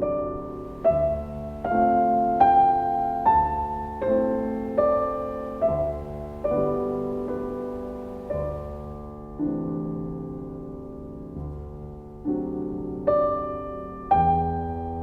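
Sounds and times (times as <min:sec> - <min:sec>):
slow gentle piano chords: 0:00.0 - 0:15.0.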